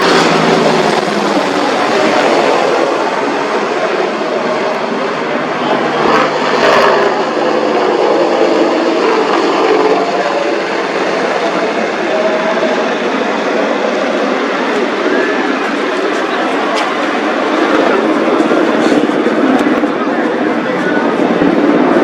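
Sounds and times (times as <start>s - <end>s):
helicopter flying: 0.0s - 22.0s.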